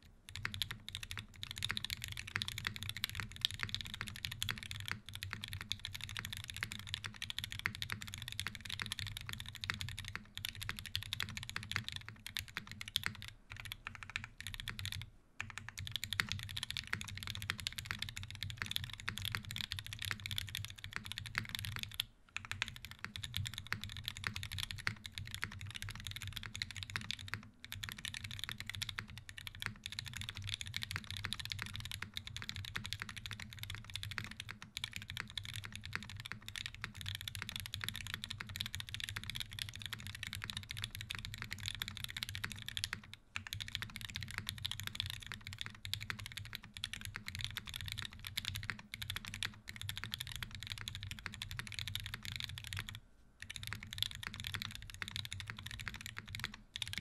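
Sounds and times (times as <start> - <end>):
fast mechanical keyboard typing: 0.0 - 57.0.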